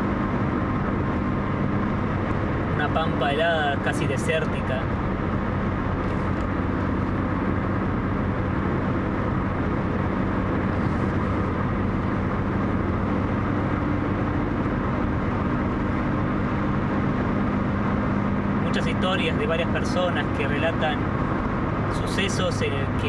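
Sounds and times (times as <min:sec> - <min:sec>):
car engine and tyre drone: 0:00.0 - 0:23.0.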